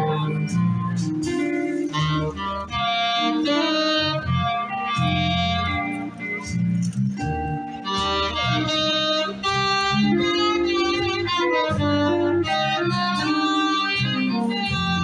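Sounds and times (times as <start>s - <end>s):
electric guitar: 0.0s - 15.0s
saxophone melody: 0.0s - 15.0s
walking bass line: 0.0s - 15.0s.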